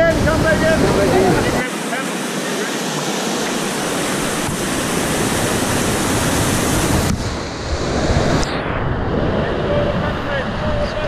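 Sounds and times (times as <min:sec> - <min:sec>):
rushing whitewater: 0:00.0 - 0:11.0.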